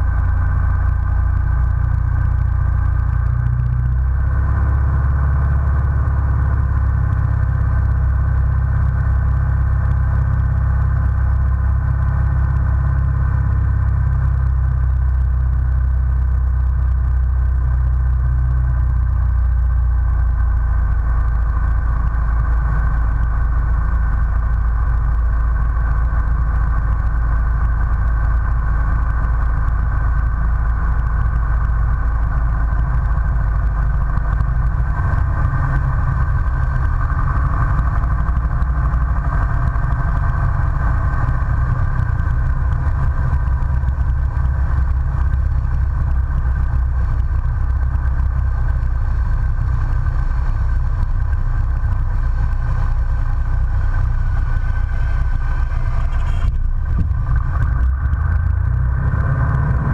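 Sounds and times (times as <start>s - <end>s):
light aircraft engine droning: 0.0s - 59.9s.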